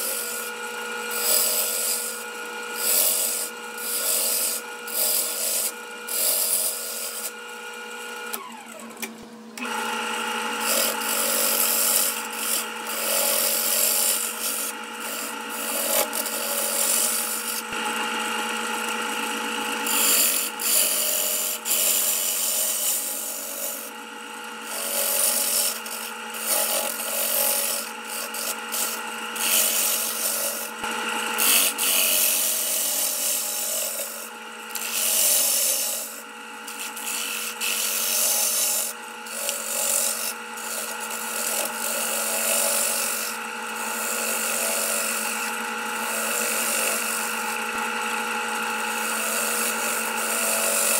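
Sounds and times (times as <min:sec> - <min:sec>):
lathe motor hum: 0:00.0 - 0:50.9
tool scraping spinning wood: 0:00.0 - 0:50.9.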